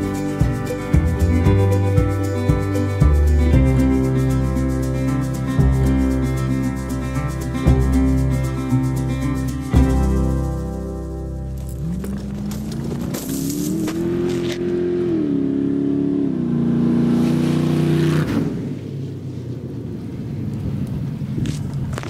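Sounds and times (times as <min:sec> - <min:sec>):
off-road vehicle engine revving: 0:00.0 - 0:18.9.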